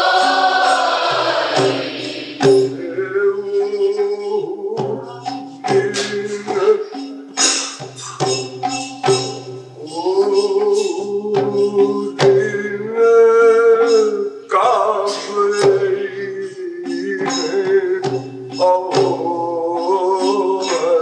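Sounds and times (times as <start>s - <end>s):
percussion strikes: 0.0s - 21.0s.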